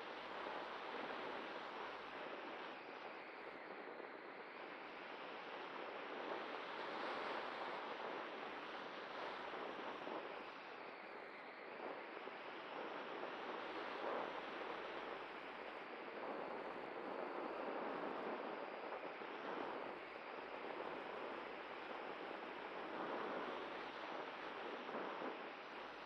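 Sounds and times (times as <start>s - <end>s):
wind rushing over camera: 0.0s - 26.0s.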